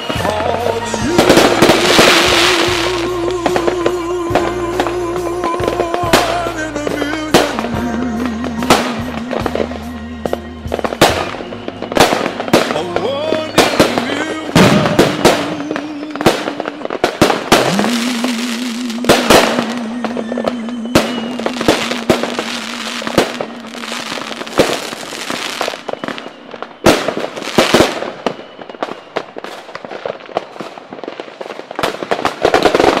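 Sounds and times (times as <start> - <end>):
wavering musical tone: 0.0 - 29.4
fireworks bangs and crackles: 0.0 - 33.0.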